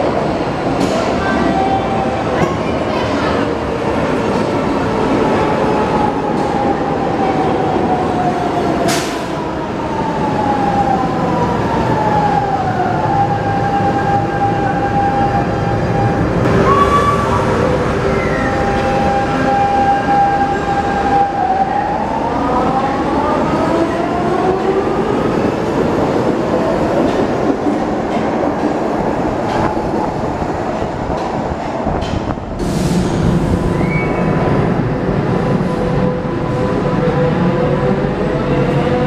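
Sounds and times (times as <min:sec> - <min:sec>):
low hum of train at platform: 0:00.0 - 0:39.0
train cars rumbling: 0:00.0 - 0:39.0.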